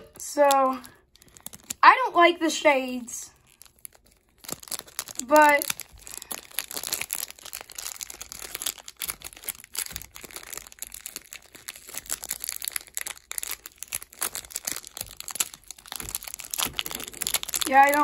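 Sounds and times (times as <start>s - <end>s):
plastic wrapping crinkling: 0.0s - 2.1s, 2.8s - 18.0s.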